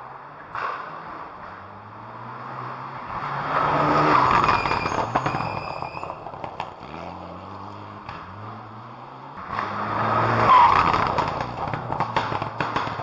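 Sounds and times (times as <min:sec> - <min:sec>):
rally car engine revving: 0:00.6 - 0:13.0.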